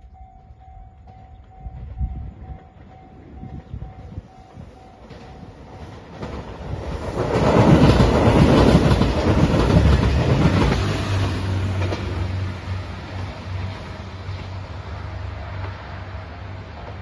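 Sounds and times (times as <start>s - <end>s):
wheels clattering on rails: 0.0s - 14.8s
train passing close by: 0.0s - 17.0s.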